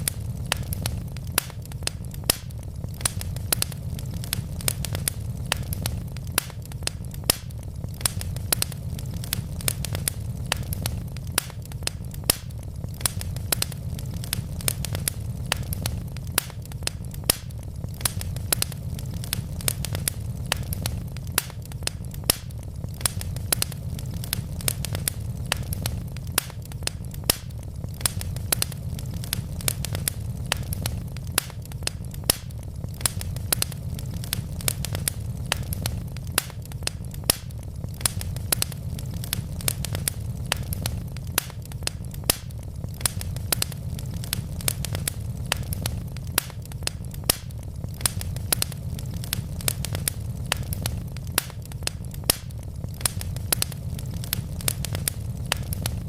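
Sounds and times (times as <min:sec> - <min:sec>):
logs crackling and popping: 0:00.0 - 0:56.0
low rumble of flames: 0:00.0 - 0:56.0.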